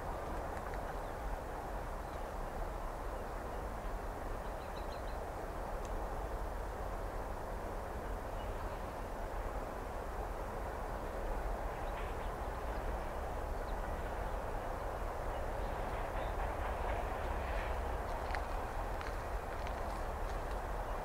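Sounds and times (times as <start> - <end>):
distant freight train rumble: 0.0 - 21.0.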